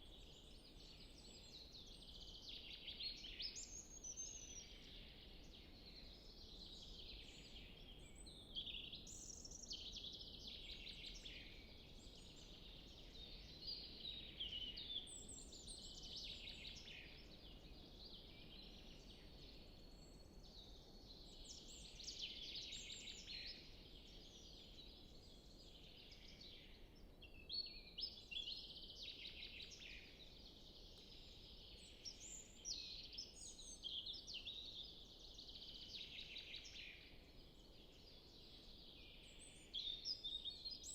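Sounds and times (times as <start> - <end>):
low background hiss: 0.0 - 40.9
songbirds singing: 0.0 - 40.9.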